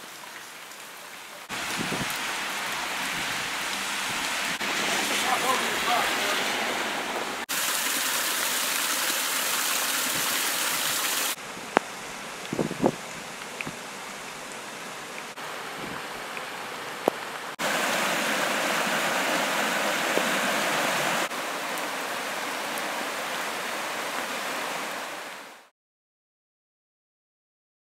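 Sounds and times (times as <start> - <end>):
creek rushing over rocks: 1.4 - 25.7.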